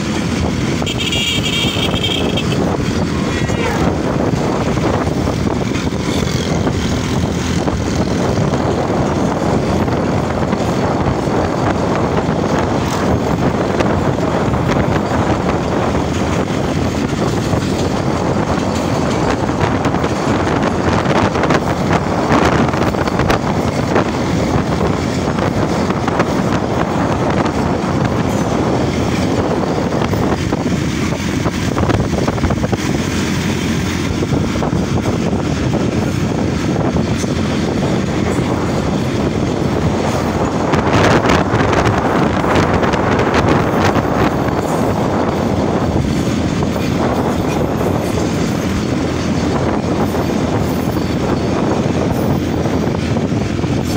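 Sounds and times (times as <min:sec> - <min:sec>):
train carriage rumbling: 0:00.0 - 0:53.9.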